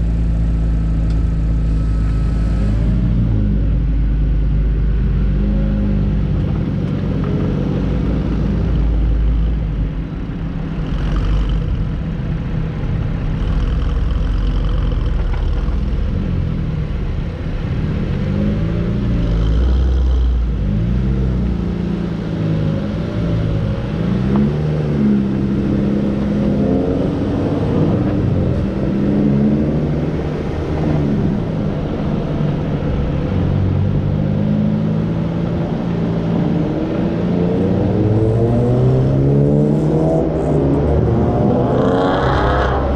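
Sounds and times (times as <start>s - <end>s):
car engine running hard: 0.0s - 42.9s.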